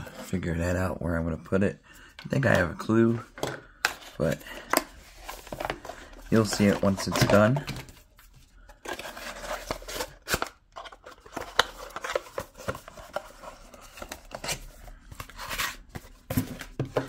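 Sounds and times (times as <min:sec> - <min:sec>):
cardboard box handled and opened: 0:02.4 - 0:17.0.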